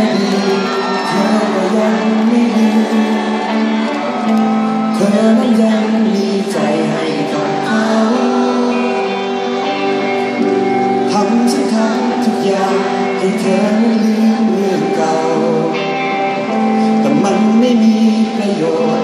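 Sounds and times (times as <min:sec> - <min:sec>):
guitar accompaniment: 0:00.0 - 0:19.0
person singing: 0:00.0 - 0:19.0.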